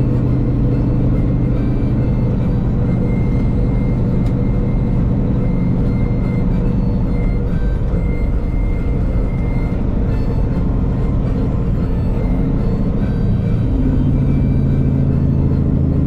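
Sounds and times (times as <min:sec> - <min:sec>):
diesel truck engine inside cab: 0:00.0 - 0:16.0.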